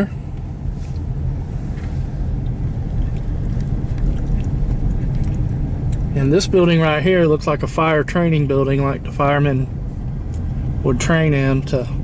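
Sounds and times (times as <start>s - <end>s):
car engine rumble: 0.0s - 12.0s
road noise inside a car: 0.0s - 12.0s.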